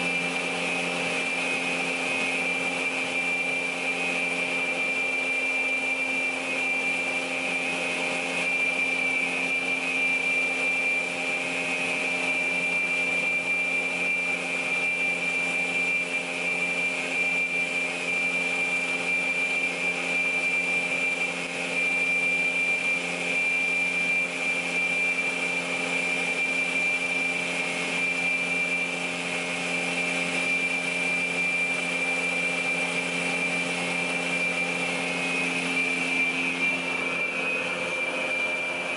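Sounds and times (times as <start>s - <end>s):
saw motor humming with whine: 0.0s - 38.9s.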